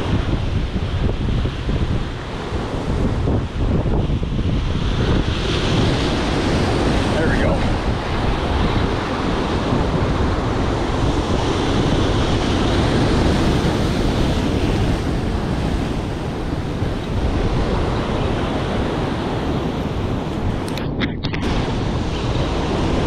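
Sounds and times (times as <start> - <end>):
ocean surf breaking on rocks: 0.0 - 23.0
wind buffeting microphone: 0.0 - 23.0.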